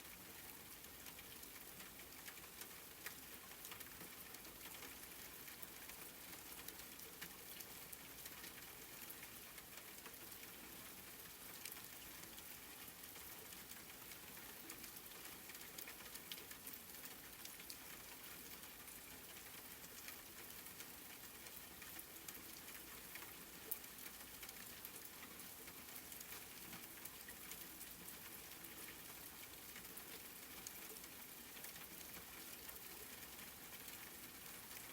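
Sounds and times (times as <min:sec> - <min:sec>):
soft rain falling: 0:00.0 - 0:34.9.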